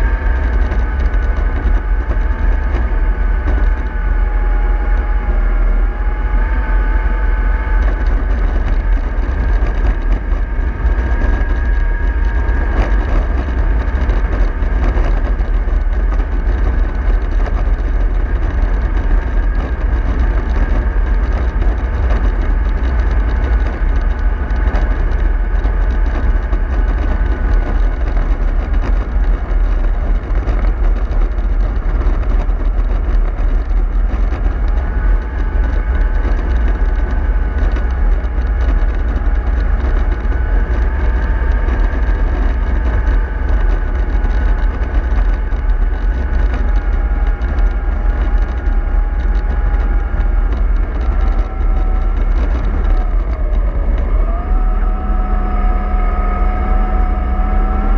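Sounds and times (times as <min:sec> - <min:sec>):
bus engine rumble: 0:00.0 - 0:57.9
road noise: 0:00.0 - 0:57.9
thin whine: 0:00.0 - 0:57.9.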